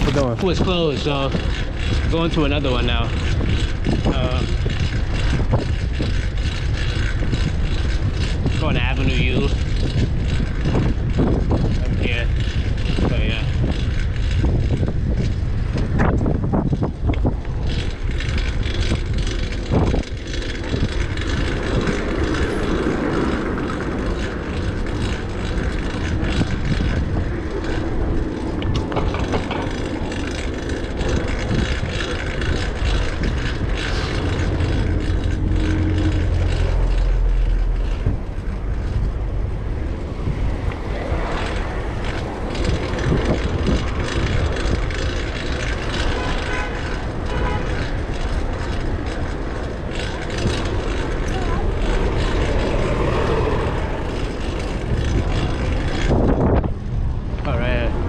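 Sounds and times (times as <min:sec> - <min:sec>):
city street traffic: 0:00.0 - 0:58.0
wind buffeting microphone: 0:00.0 - 0:58.0.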